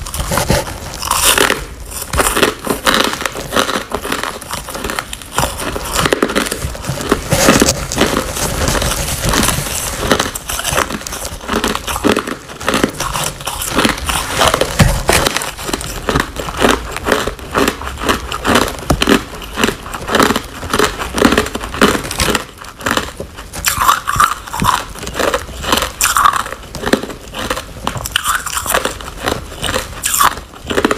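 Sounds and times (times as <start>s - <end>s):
ice being chewed: 0.0s - 30.9s.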